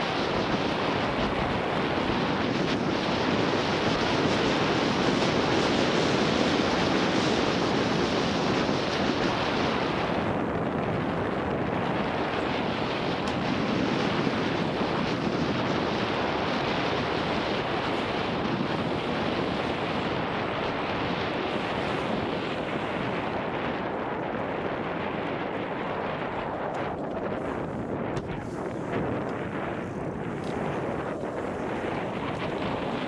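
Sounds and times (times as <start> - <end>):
bike tyres rolling on dirt: 0.0 - 33.0
wind over microphone: 0.0 - 33.0.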